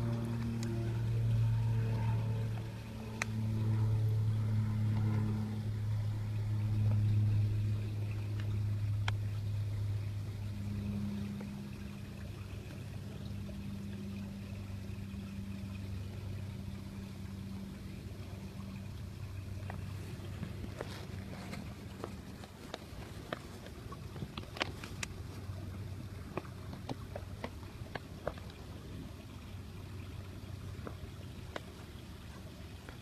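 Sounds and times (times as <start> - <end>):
low motor hum: 0.0 - 33.0.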